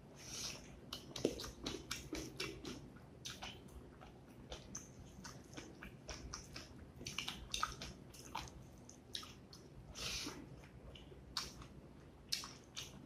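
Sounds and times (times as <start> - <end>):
chewing: 0.3 - 13.0.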